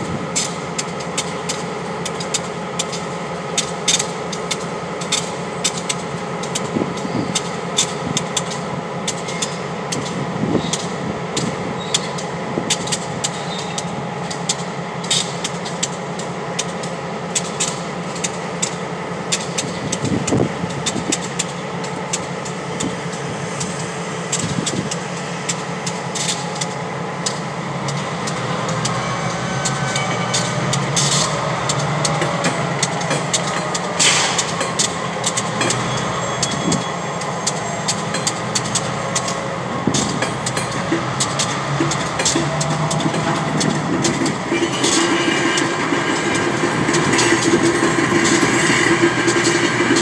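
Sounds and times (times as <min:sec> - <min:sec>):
diesel locomotive engine drone: 0:00.0 - 0:50.0
wheels and couplers clanking: 0:00.0 - 0:50.0.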